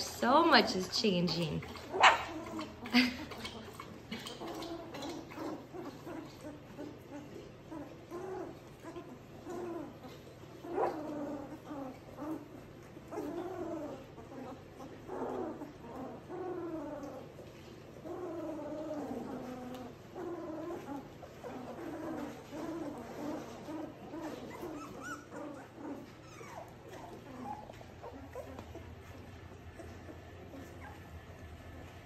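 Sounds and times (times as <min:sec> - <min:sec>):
puppies whimpering: 0:00.0 - 0:32.0.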